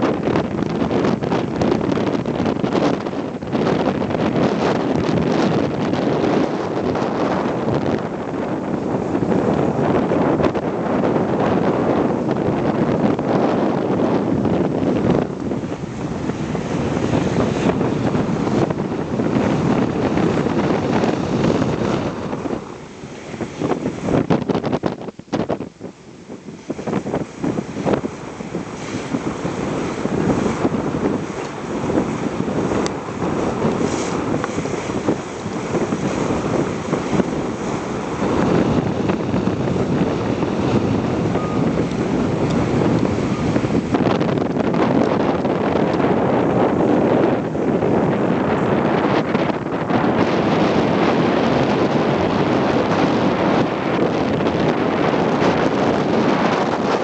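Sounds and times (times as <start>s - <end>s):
water rushing along boat hull: 0.0s - 57.0s
wind buffeting microphone: 0.0s - 57.0s.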